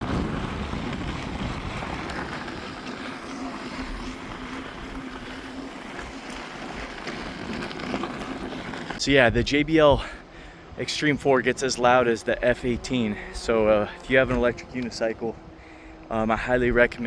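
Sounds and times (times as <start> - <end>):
wind rushing over microphone: 0.0 - 6.4, 9.0 - 17.0
road noise: 0.0 - 17.0.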